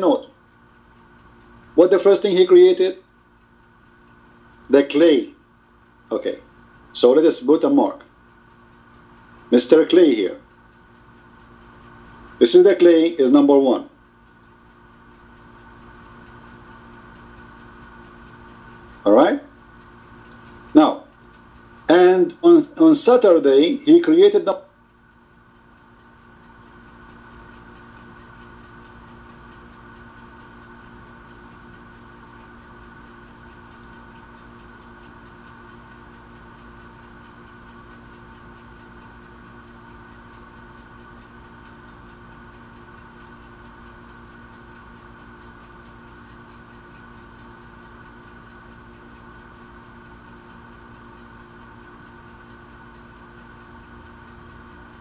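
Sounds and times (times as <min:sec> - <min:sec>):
steady electronic hum: 0:00.0 - 0:55.0.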